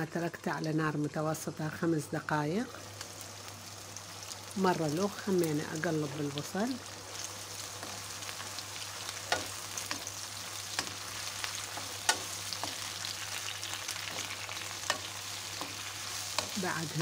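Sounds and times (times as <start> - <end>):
onions sizzling in a frying pan: 0.0 - 17.0.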